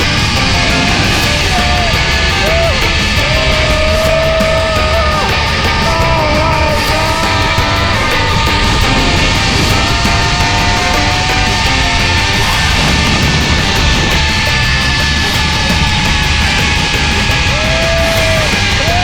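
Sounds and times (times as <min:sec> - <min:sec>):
hard rock music: 0:00.0 - 0:19.0.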